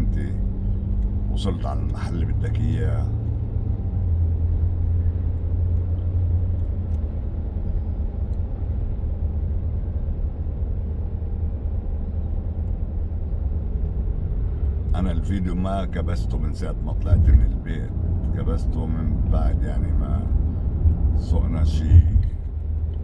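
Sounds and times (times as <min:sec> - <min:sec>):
road noise inside car: 0:00.0 - 0:23.0.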